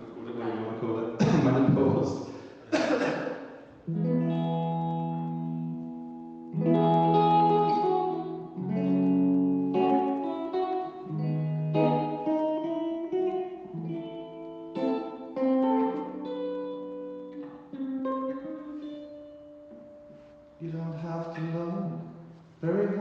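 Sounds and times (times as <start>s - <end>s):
guitar chords ringing: 3.6s - 23.0s.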